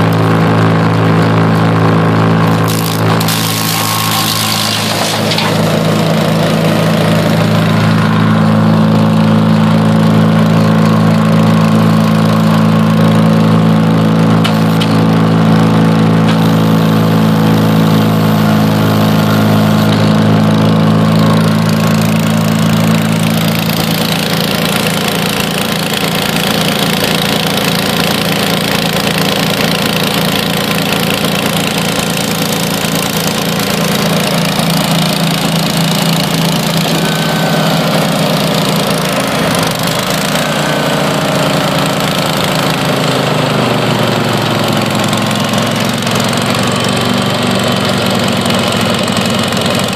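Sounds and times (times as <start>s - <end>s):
brush chipper engine running: 0.0s - 49.9s.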